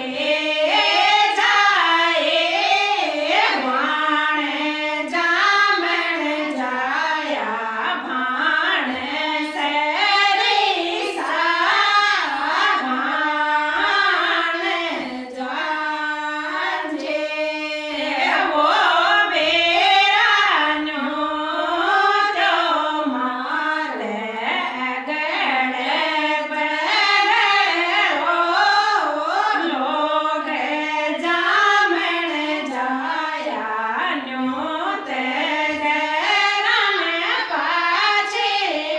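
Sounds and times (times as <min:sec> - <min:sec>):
women singing in unison: 0:00.0 - 0:38.9.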